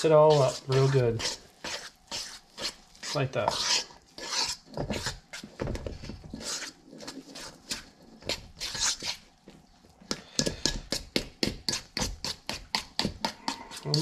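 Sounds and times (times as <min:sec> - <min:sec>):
utensil scraping a metal bowl: 0:00.0 - 0:09.2, 0:11.6 - 0:14.0
sticky dough being stirred: 0:00.0 - 0:14.0.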